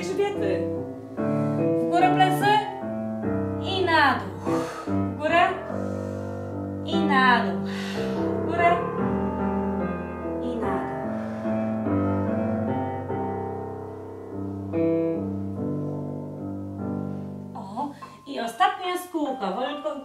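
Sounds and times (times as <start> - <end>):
slow low piano music: 0.0 - 20.0.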